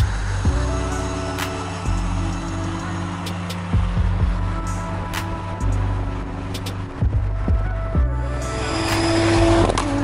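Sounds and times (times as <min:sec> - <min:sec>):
deep bass line: 0:00.0 - 0:10.0.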